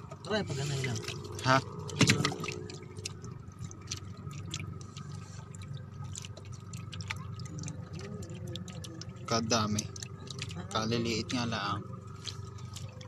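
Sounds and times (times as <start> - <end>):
steady low hum: 0.0 - 13.0
water dripping in boat hull: 0.0 - 13.0.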